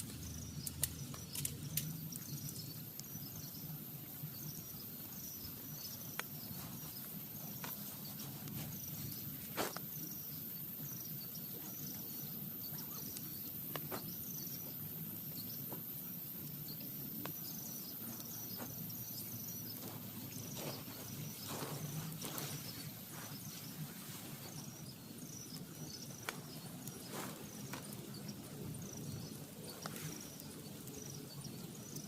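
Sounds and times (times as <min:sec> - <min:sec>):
insects chirping: 0:00.0 - 0:32.0
outdoor background hum: 0:00.0 - 0:32.0.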